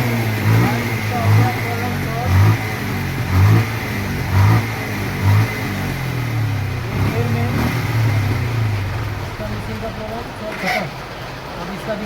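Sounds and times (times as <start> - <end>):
motorcycle engine revving: 0.0 - 11.5.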